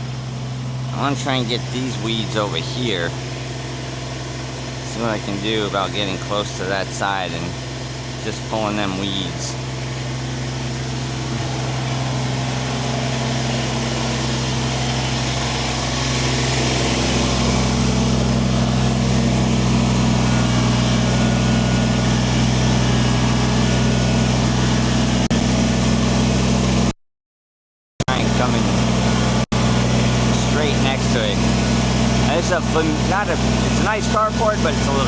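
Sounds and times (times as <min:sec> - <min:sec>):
tractor diesel engine running: 0:00.0 - 0:26.9, 0:28.0 - 0:35.0.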